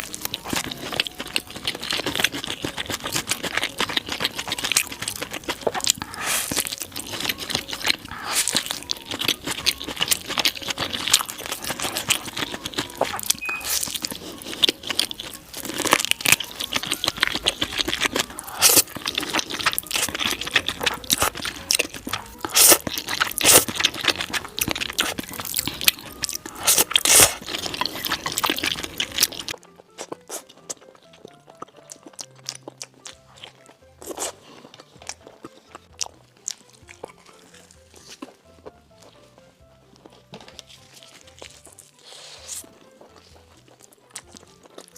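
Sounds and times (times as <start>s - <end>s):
crunchy bites and chewing: 0.0s - 44.9s.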